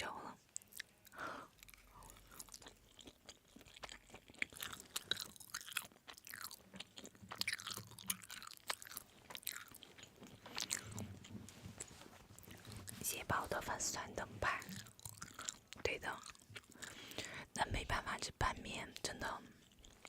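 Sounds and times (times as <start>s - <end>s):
person chewing noodles: 0.4s - 13.1s, 14.0s - 17.6s, 19.4s - 20.0s.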